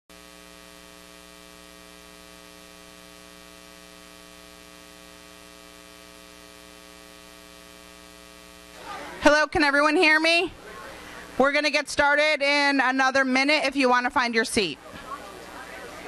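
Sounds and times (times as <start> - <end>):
electrical mains hum: 0.1 - 16.0.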